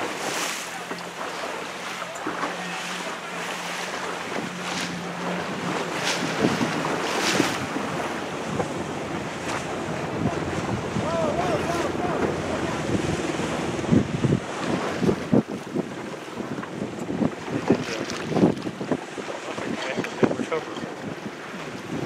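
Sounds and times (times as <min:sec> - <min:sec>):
water rushing and splashing: 0:00.0 - 0:22.0
wind buffeting microphone: 0:02.8 - 0:22.0.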